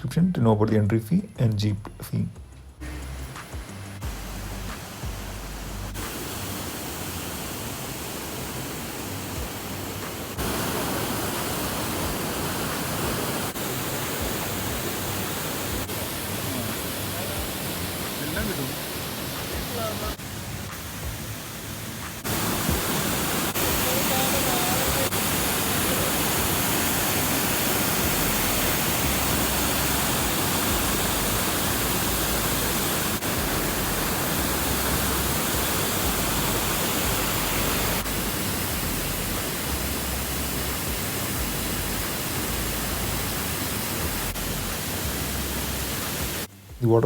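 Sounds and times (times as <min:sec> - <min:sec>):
water rushing over rocks: 0:03.0 - 0:46.5.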